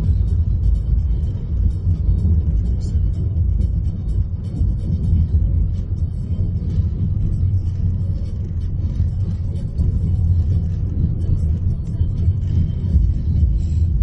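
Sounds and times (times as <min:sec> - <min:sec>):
car cabin rumble: 0:00.0 - 0:14.0.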